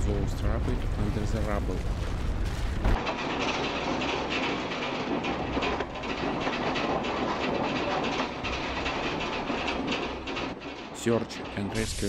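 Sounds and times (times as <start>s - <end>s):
room contents rattling: 0.0s - 12.0s.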